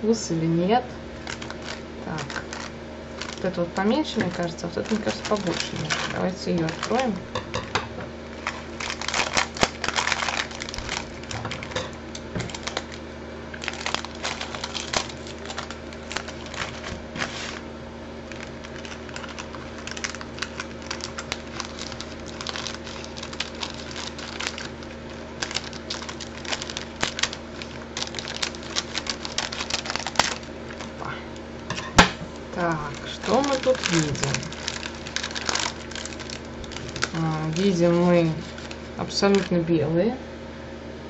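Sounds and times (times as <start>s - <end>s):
faint steady hum: 0.0s - 41.0s
foil packet crinkling: 1.0s - 39.7s
scissors cutting foil: 1.2s - 7.5s, 8.4s - 13.0s, 13.6s - 17.6s, 18.3s - 31.0s, 32.6s - 39.5s.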